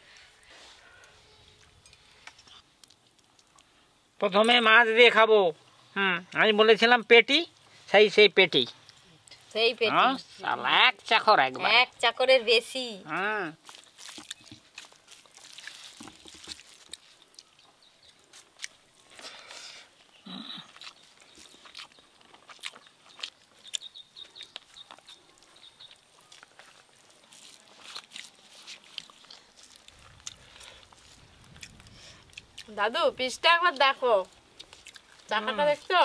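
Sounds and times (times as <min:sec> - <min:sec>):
people eating and chewing: 0:00.0 - 0:04.1, 0:07.5 - 0:09.6, 0:13.0 - 0:36.0.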